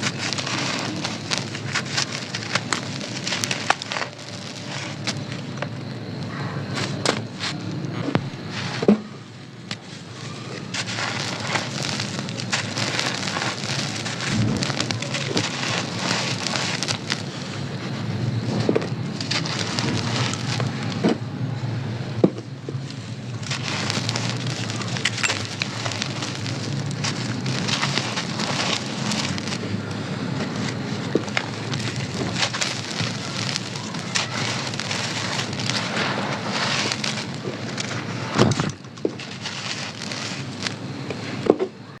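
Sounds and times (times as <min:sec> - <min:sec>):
dry crumbles being crushed: 0:00.0 - 0:21.3, 0:22.1 - 0:41.9.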